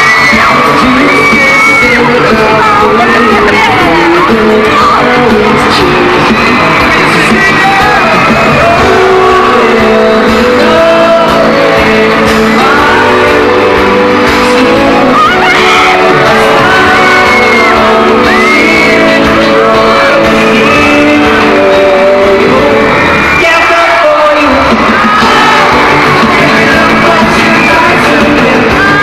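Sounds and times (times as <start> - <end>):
audience screaming and singing: 0.0 - 29.0
live pop band with vocals: 0.0 - 29.0.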